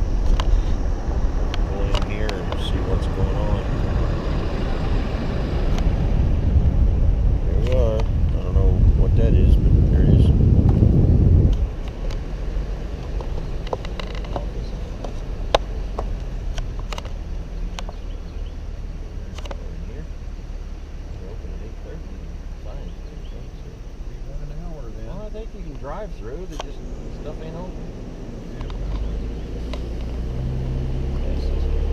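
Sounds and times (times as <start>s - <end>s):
car road rumble inside cabin: 0.0s - 31.9s.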